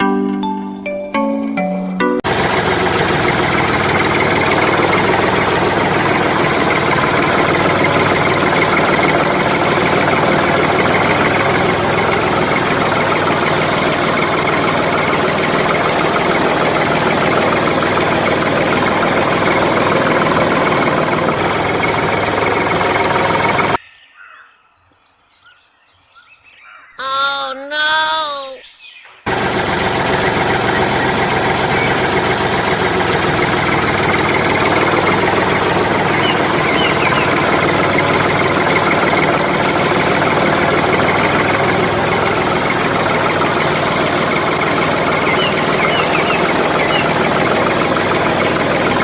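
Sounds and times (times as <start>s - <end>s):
small diesel engine running: 2.2s - 23.8s, 29.3s - 49.0s.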